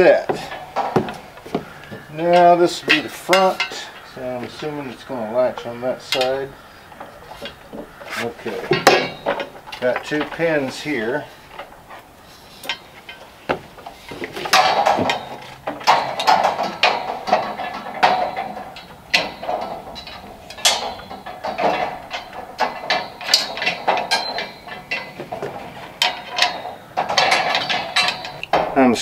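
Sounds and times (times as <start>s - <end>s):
metal clanks and rattles: 0.0s - 29.0s.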